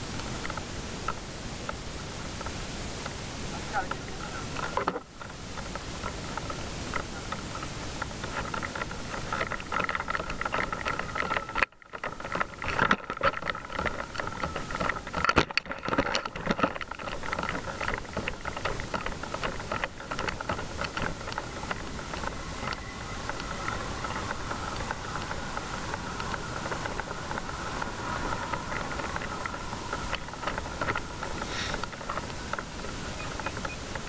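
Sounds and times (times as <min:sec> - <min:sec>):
gear rattling while walking: 0:00.0 - 0:34.0
mechanical hum of machinery: 0:00.0 - 0:34.0
footsteps: 0:05.5 - 0:34.0.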